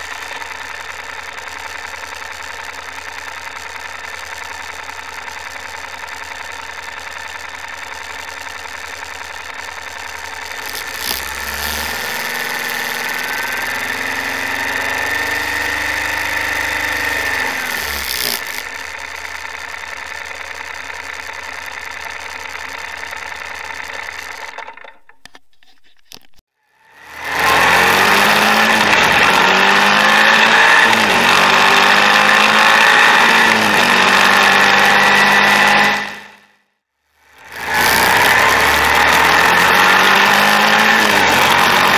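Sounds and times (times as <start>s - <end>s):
motorcycle riding along road: 0.0s - 25.2s, 26.5s - 41.9s
motorcycle engine idling and revving: 0.0s - 41.9s.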